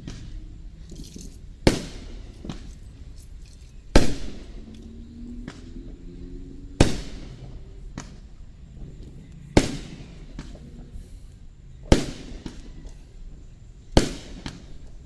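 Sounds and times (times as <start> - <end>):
fireworks booms with echo: 0.0 - 3.1, 3.8 - 15.0
weaker fireworks bangs: 0.0 - 15.0.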